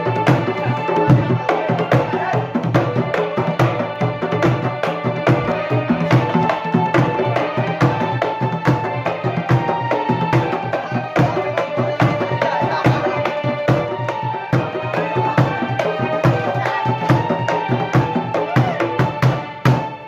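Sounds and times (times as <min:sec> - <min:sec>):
bass drum and hand drums: 0:00.0 - 0:20.0
high held melody line: 0:00.0 - 0:20.0.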